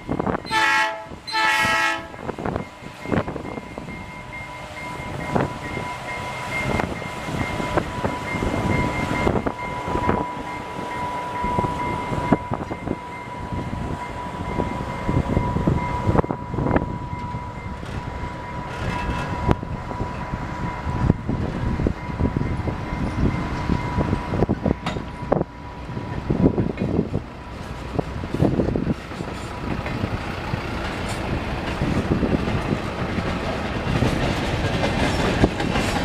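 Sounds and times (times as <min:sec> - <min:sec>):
train cars rumbling: 0:00.0 - 0:36.0
train wheels clacking: 0:02.4 - 0:36.0
wind on microphone: 0:05.0 - 0:30.3, 0:30.9 - 0:36.0.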